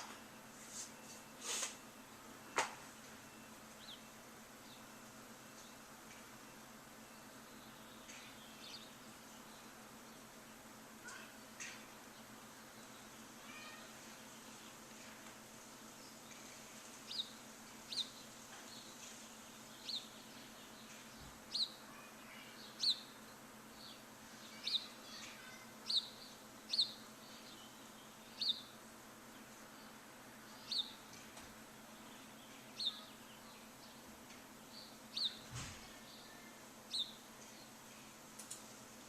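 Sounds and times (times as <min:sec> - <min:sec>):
bird chirping: 0:00.0 - 0:14.9, 0:15.8 - 0:38.2
steady background hiss: 0:00.0 - 0:39.0.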